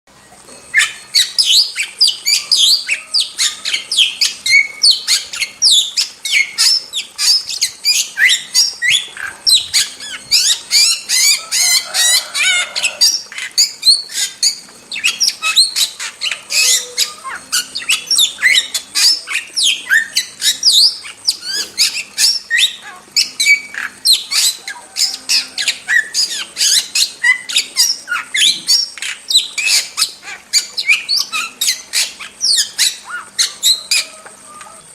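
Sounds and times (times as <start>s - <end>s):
starling chattering song: 0.1s - 34.9s.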